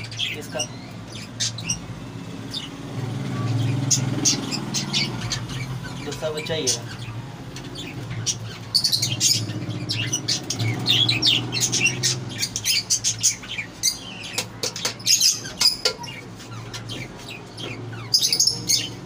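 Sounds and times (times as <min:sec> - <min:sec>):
budgerigars chirping and squawking: 0:00.0 - 0:19.0.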